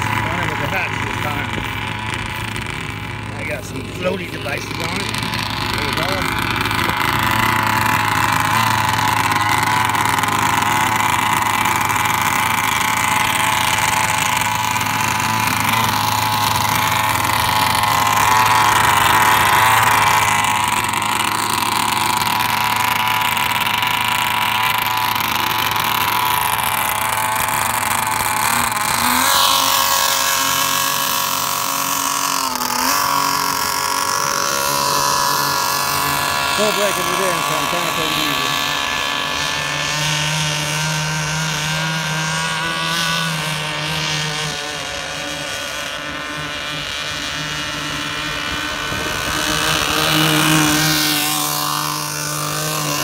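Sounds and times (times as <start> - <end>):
two-stroke boat engine running: 0.0 - 53.0.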